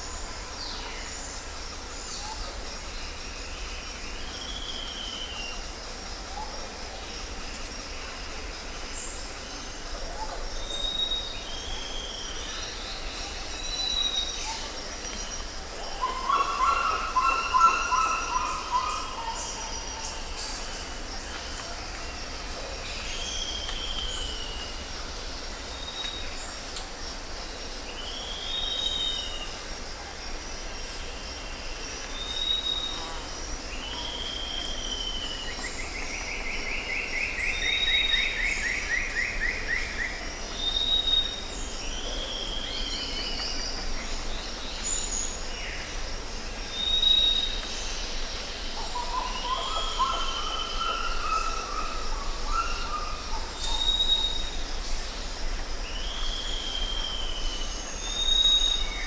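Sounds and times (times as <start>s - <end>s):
pulsing insect chorus: 0.0s - 59.0s.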